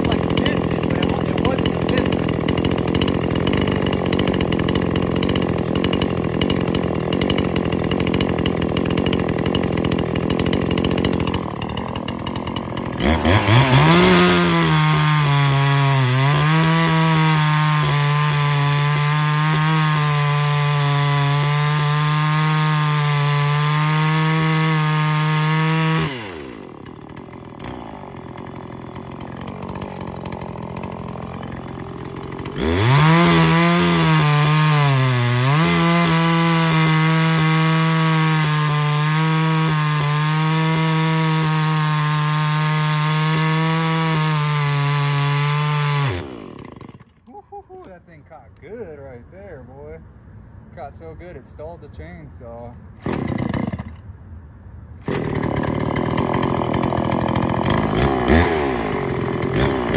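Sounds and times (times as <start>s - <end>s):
chainsaw cutting log: 0.0s - 48.0s, 53.0s - 54.1s, 55.0s - 59.9s
chainsaw idling: 0.0s - 48.0s, 53.0s - 54.0s, 55.0s - 59.9s.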